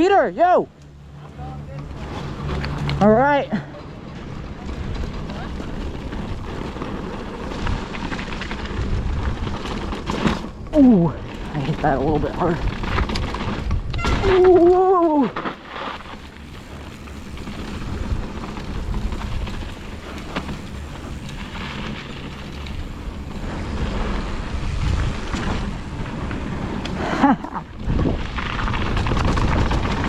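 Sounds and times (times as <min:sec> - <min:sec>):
mountain bike rumbling and rattling: 0:00.0 - 0:30.0
bike clicks: 0:00.7 - 0:30.0
wind rushing over microphone: 0:04.2 - 0:30.0.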